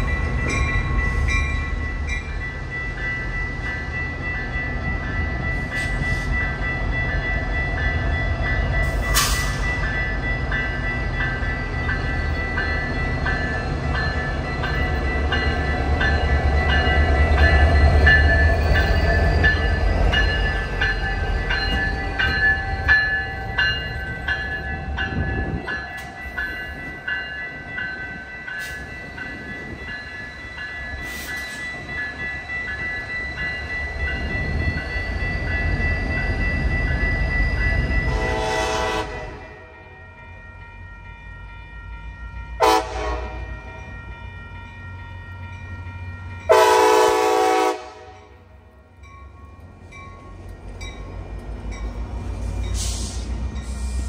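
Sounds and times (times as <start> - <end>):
passing train rumble: 0.0 - 54.0.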